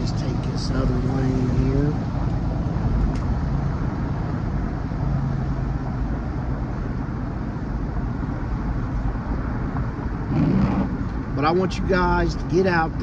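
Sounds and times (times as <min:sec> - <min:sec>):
low engine hum: 0:00.0 - 0:13.0
rumble of tyres and wind: 0:00.0 - 0:13.0.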